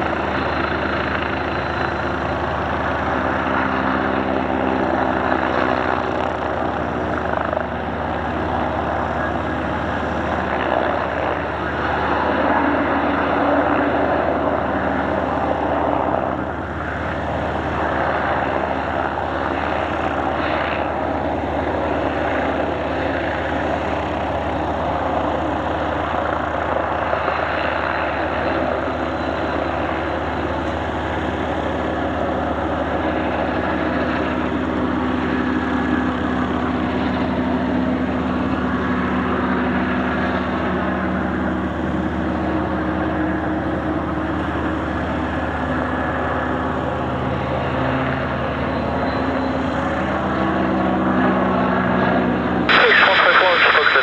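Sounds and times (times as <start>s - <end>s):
propeller aircraft engine running: 0.0s - 54.0s.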